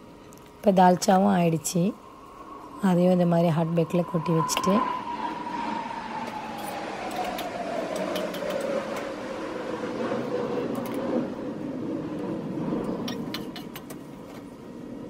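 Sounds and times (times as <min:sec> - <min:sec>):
steady whine falling in pitch: 0:00.0 - 0:13.3.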